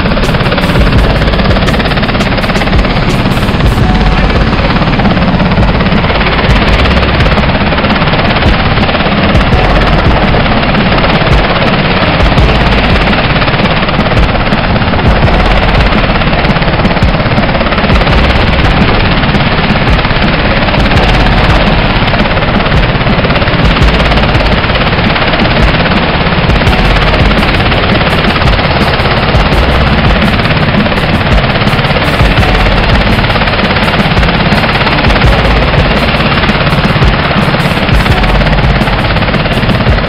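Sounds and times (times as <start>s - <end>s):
helicopter running: 0.0s - 40.0s
rotor wash buffeting microphone: 0.0s - 40.0s.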